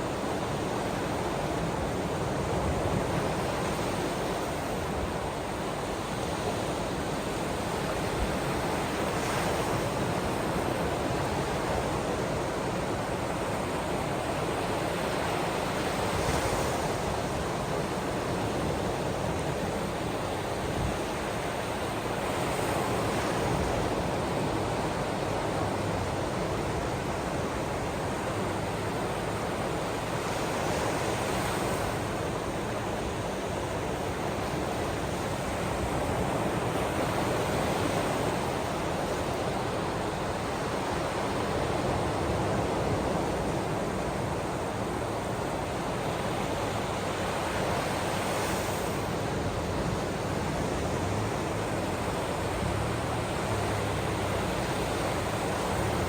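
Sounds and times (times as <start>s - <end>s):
ocean waves washing and breaking: 0.0s - 56.0s.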